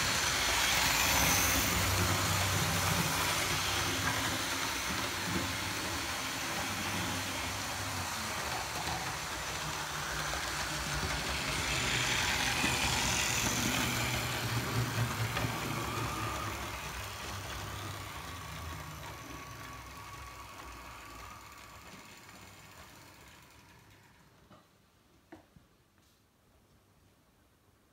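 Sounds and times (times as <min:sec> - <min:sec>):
model train motor whirring: 0:00.0 - 0:24.4
wheels rattling over rails: 0:00.0 - 0:24.7.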